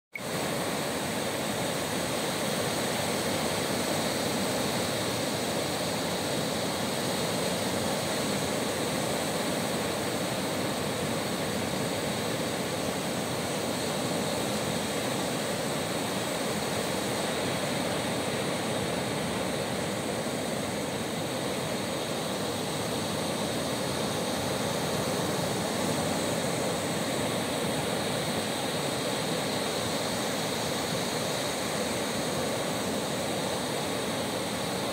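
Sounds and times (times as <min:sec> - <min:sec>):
small waves breaking on beach: 0:00.2 - 0:34.9.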